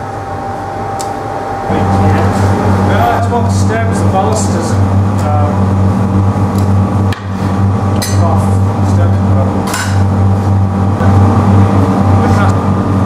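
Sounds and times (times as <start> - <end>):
furnace humming: 0.0 - 13.0.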